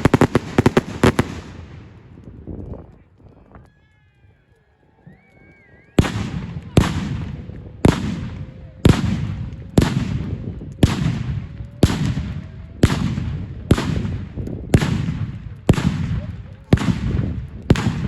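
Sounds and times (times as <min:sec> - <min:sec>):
fireworks banging with rumbling echo: 0:00.0 - 0:03.0, 0:06.0 - 0:18.0.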